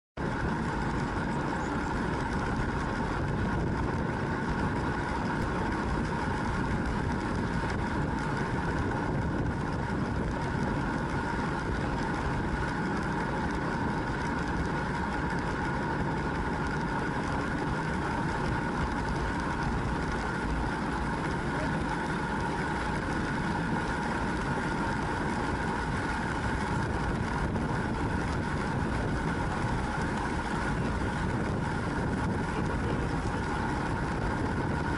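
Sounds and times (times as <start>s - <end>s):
bicycle road noise: 0.2s - 34.9s
faint constant hum: 0.2s - 34.9s
rushing wind: 0.2s - 34.9s.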